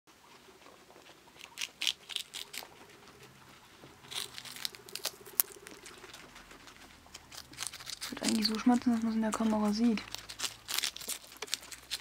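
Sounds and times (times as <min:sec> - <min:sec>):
guinea pigs chewing crisp leaves: 0:00.1 - 0:12.0.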